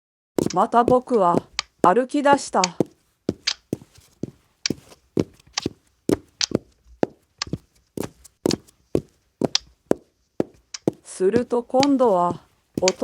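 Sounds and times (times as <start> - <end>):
footsteps walking: 0.4 - 13.0.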